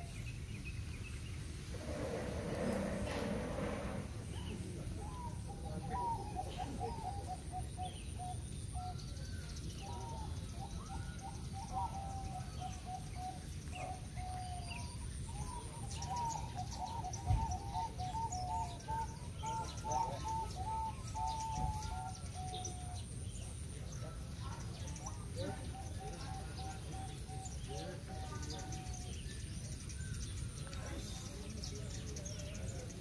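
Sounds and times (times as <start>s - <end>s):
doves cooing: 1.6s - 33.0s.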